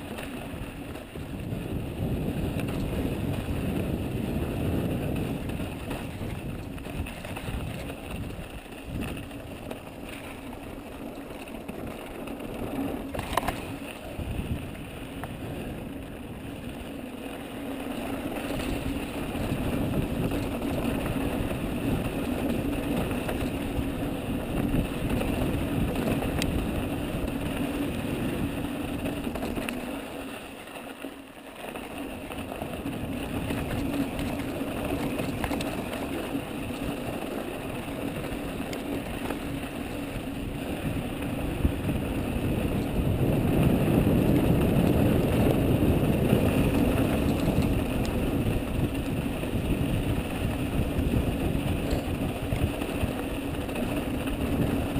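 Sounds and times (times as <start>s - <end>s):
bike rattling: 0.0s - 54.9s
bike tyres rumbling over gravel: 0.0s - 54.9s.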